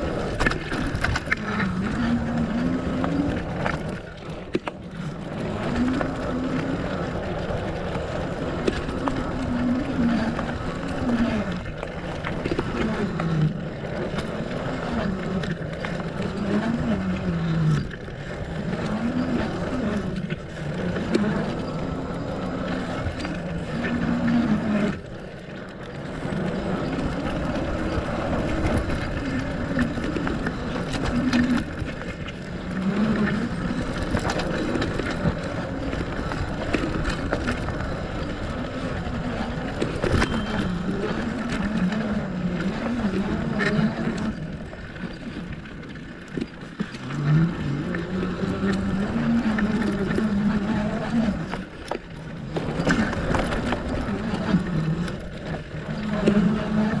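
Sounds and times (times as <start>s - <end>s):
bike tyres rolling on dirt: 0.0s - 57.0s.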